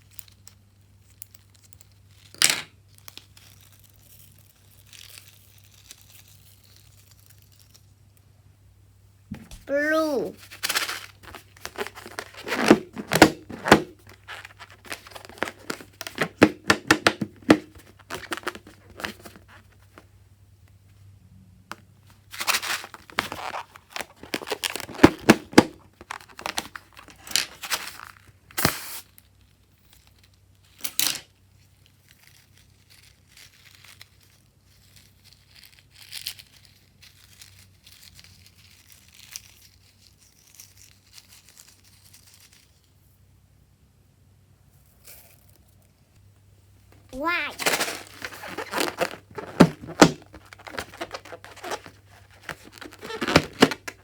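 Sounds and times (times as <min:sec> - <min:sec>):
tearing and crinkling: 0:00.0 - 0:08.0, 0:09.7 - 0:16.4, 0:17.4 - 0:20.0, 0:22.2 - 0:42.9, 0:47.2 - 0:54.0.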